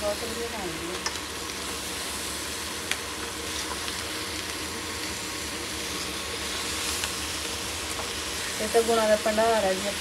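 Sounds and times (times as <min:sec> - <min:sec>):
pumpkin sizzling in oil: 0:00.0 - 0:10.0.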